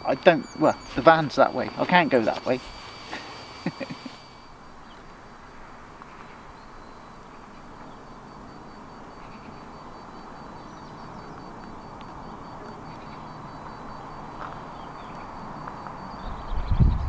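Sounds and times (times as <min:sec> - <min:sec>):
distant city traffic hum: 0:00.0 - 0:16.6.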